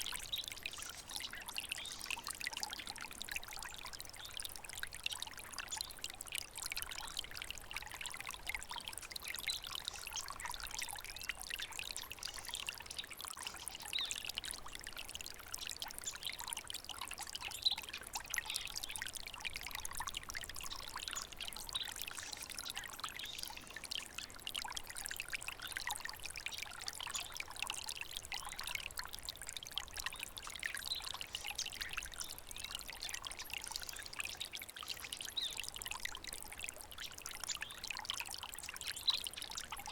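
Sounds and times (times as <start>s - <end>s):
stream water trickling and bubbling: 0.0s - 39.9s.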